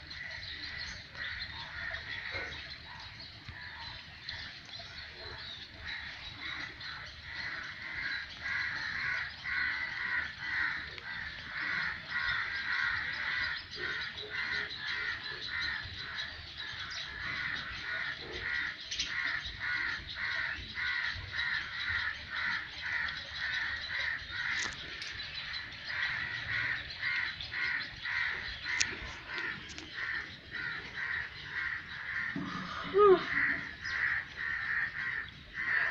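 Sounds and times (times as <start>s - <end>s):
bird harsh begging calls: 5.0s - 35.9s.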